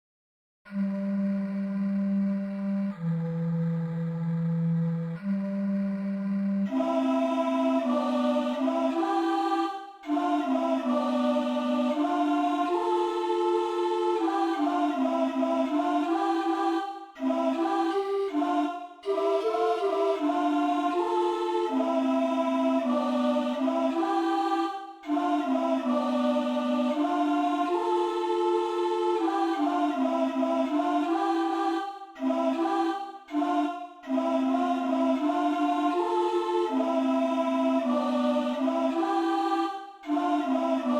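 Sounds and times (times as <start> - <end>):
person singing wordless melody: 0.7 - 40.9.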